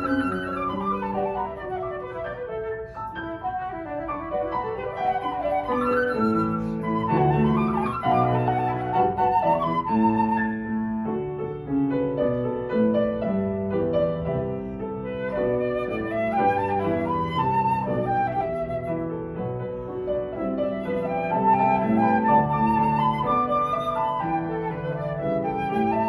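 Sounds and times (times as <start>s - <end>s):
flute melody: 0.0s - 26.0s
grand piano accompaniment: 0.0s - 26.0s.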